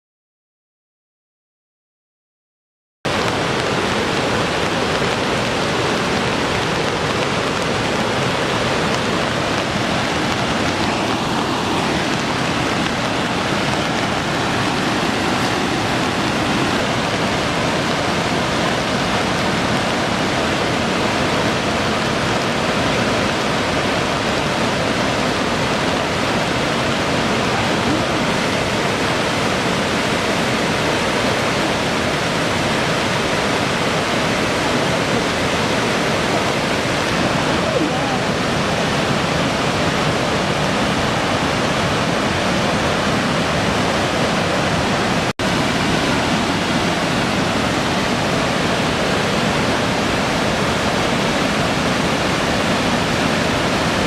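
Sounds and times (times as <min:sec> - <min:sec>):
waterfall roaring: 0:03.1 - 0:54.0.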